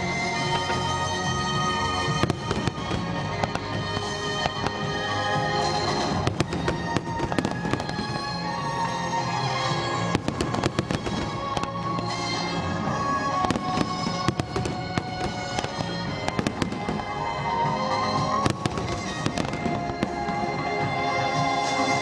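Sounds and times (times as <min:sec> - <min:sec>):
firework bangs and crackles: 0:00.0 - 0:22.0
music: 0:00.0 - 0:22.0.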